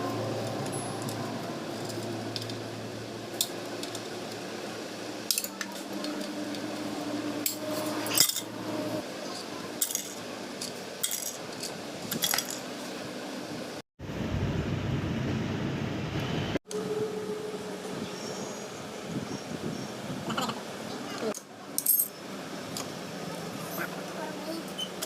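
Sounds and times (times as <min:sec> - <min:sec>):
low steady hum: 0:00.0 - 0:24.7.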